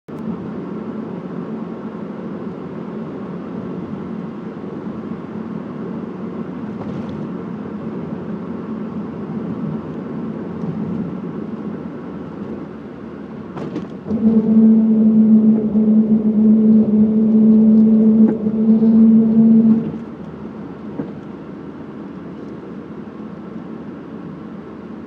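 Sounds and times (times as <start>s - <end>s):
car engine and road noise: 0.1s - 25.0s.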